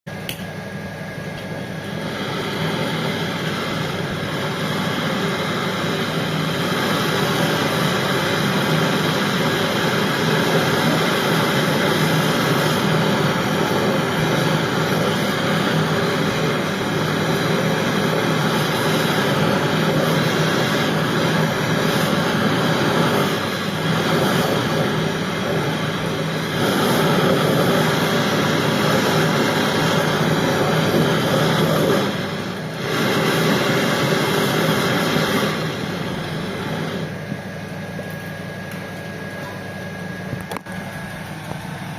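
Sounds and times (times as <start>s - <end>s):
steady mechanical running noise: 0.1s - 41.9s.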